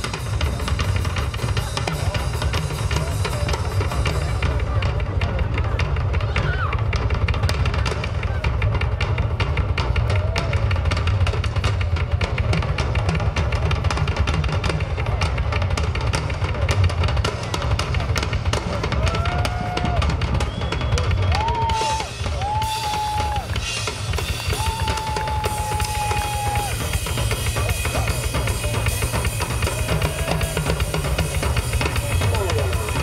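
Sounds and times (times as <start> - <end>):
bass drum beats: 0.0 - 33.0
rock drum solo: 0.0 - 33.0.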